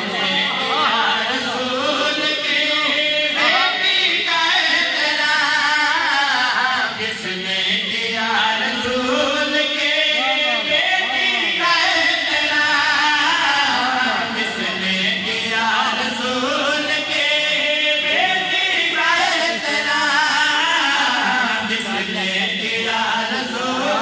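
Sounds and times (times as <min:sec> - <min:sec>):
men chanting devotional poem: 0:00.0 - 0:24.0.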